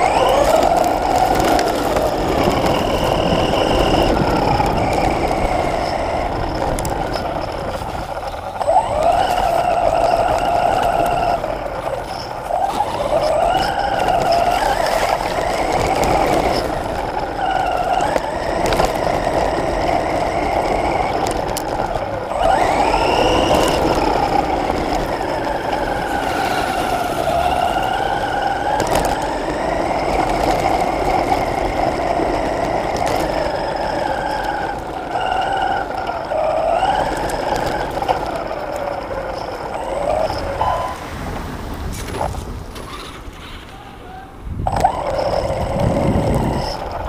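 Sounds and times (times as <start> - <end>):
toy truck motor and gears whining: 0.0 - 41.6, 42.8 - 47.0
tyres rumbling on gravel: 0.0 - 47.0.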